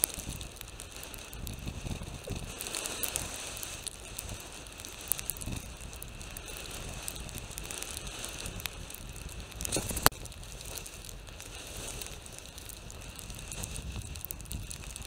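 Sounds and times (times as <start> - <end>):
bicycle tyres crunching on gravel: 0.0 - 15.0.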